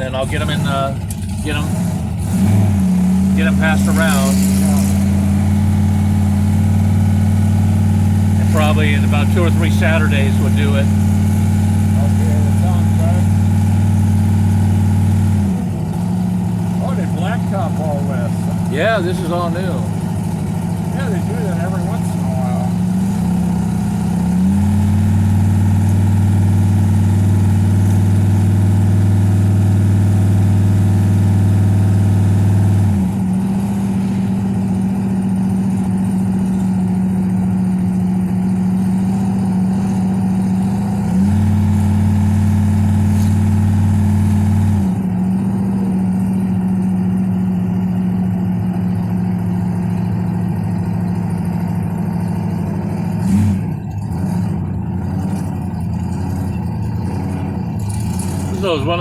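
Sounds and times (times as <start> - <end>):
car engine drone inside cabin: 0.0 - 59.0.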